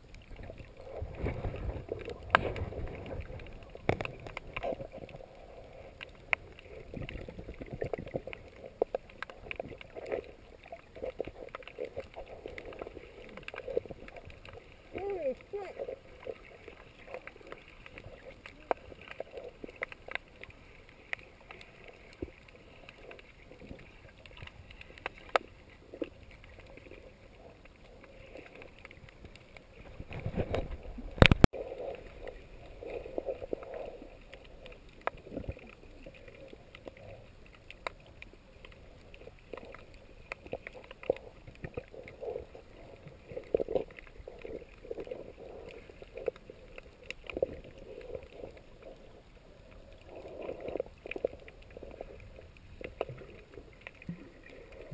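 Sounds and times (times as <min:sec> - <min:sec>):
bursts of water noise: 0:00.0 - 0:54.9
sharp clicks underwater: 0:00.0 - 0:54.9.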